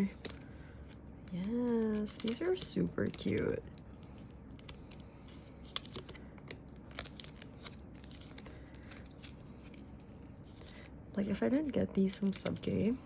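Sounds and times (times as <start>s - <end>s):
photo cards flipping: 0.0s - 13.0s.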